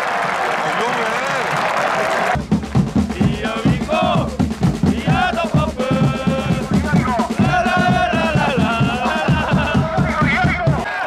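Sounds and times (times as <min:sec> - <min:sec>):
crowd chanting: 0:01.4 - 0:02.4, 0:03.1 - 0:11.0
drum beat: 0:01.4 - 0:11.0.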